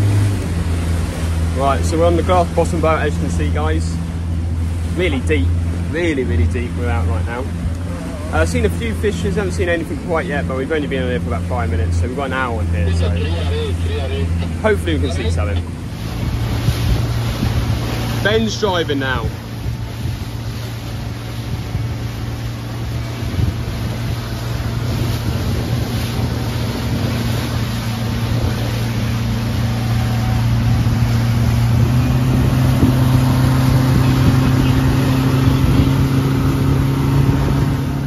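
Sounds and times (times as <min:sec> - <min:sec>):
outboard motor drone: 0:00.0 - 0:38.0
rushing water: 0:00.0 - 0:38.0.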